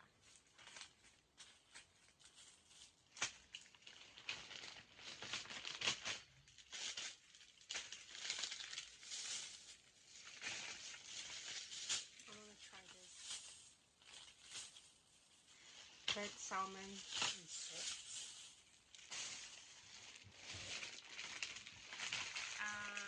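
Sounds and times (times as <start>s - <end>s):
plastic wrappers crinkling: 0.0s - 23.0s.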